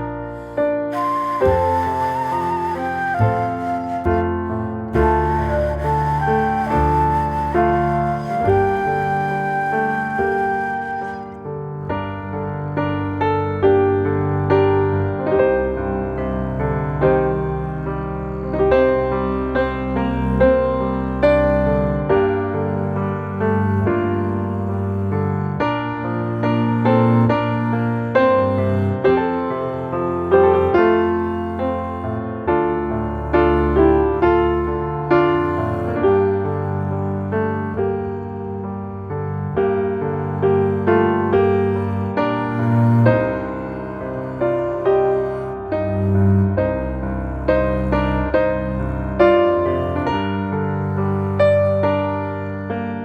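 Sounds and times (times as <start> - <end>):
gentle piano piece: 0.0 - 53.0.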